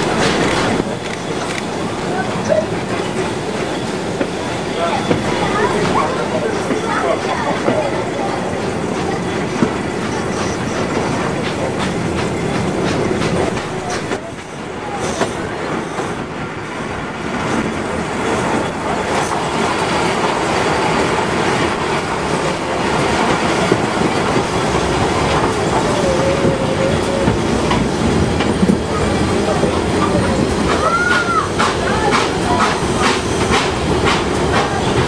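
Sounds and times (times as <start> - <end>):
clickety-clack over rail joints: 0.0 - 35.0
train wheels rumbling on track: 0.0 - 35.0.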